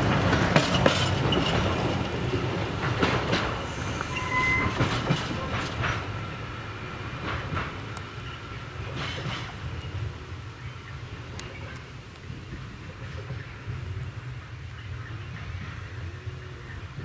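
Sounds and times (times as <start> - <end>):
wheels clacking over rail joints: 0.0 - 16.1
freight train rumble: 0.0 - 17.0.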